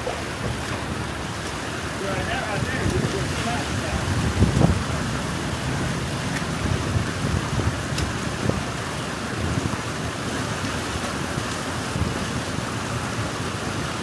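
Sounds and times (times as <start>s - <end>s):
wind buffeting microphone: 0.0s - 13.9s
water rushing through dam: 0.0s - 14.0s.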